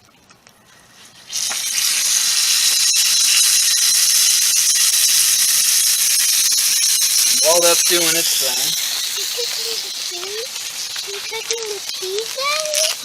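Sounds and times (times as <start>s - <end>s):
patty sizzling in a frying pan: 0.6s - 13.0s.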